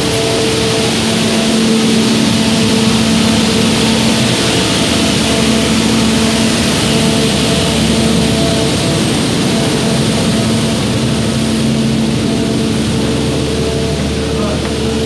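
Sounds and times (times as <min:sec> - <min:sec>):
humming drone: 0:00.0 - 0:15.0
train carriage rumble: 0:00.0 - 0:15.0.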